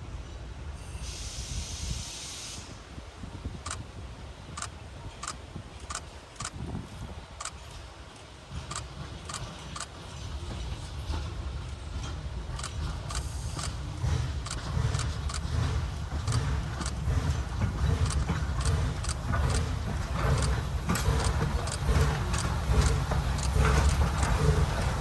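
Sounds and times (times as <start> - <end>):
train rumble: 0.0 - 25.0.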